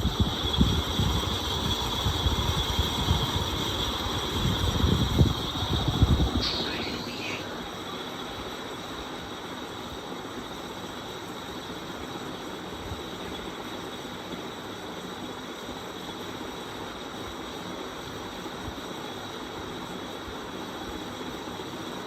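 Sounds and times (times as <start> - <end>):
ceiling fan grinding with whine: 0.0 - 22.0.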